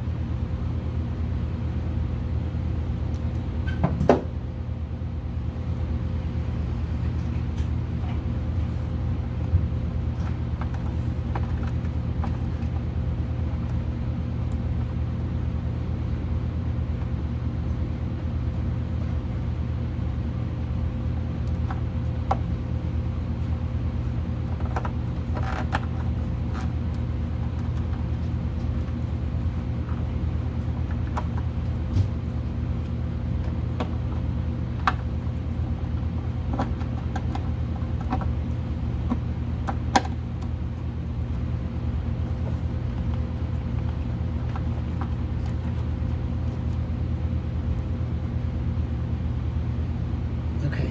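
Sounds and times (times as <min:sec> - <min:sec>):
machine hum: 0:00.0 - 0:50.9.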